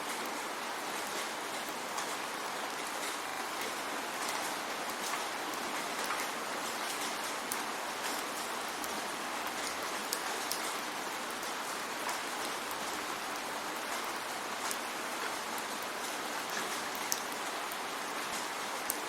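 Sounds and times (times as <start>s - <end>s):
steady rain: 0.0s - 19.0s
raindrops ticking close by: 0.1s - 19.0s.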